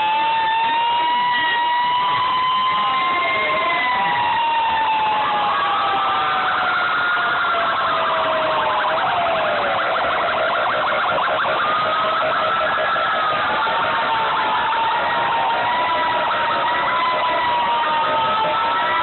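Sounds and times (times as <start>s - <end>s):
fast pulsing siren: 0.0s - 19.0s
fire truck sirens wailing: 0.0s - 19.0s.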